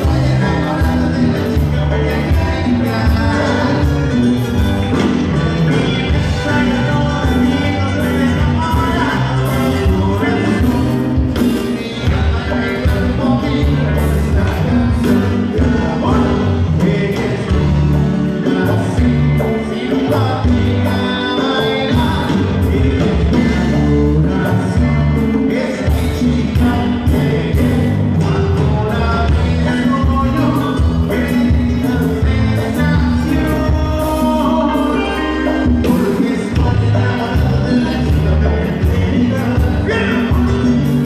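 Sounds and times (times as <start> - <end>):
live latin dance band: 0.0 - 41.0
man singing: 0.0 - 41.0.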